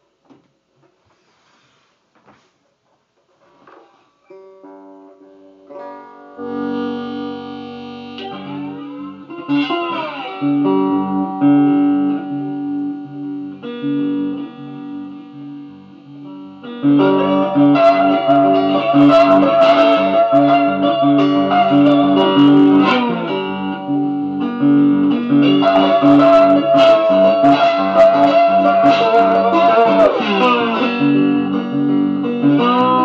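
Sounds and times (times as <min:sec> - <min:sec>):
slide guitar playing: 0:04.3 - 0:33.0.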